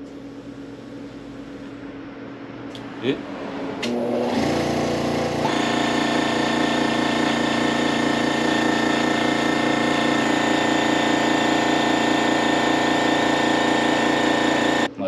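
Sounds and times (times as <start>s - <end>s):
air compressor humming: 0.0s - 2.0s, 2.6s - 14.9s.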